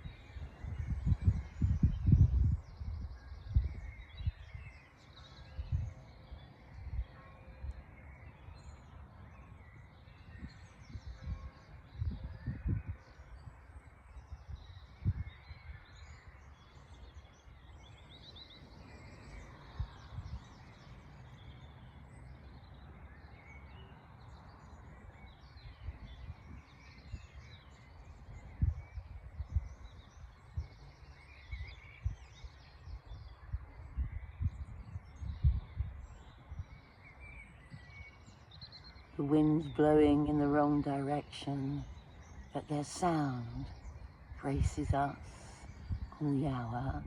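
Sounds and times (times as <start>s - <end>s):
birds singing and chirping: 0.0s - 47.0s
wind buffeting microphone: 0.0s - 47.0s.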